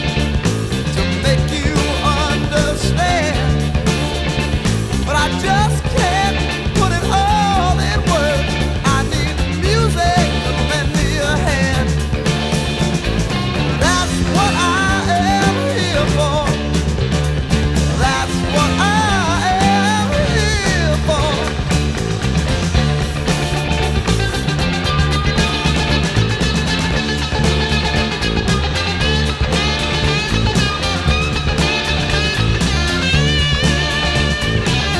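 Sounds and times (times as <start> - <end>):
electric bass line: 0.0 - 34.9
lead electric guitar bending notes: 0.0 - 34.9.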